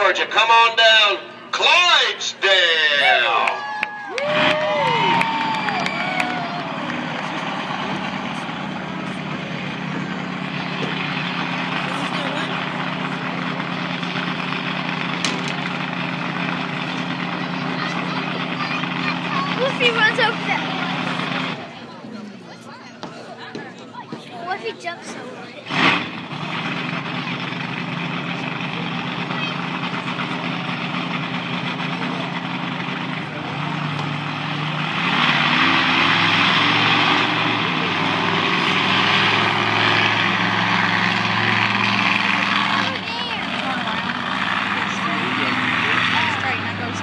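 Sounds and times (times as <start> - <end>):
monster truck engine idling: 0.0 - 22.4, 24.5 - 47.0.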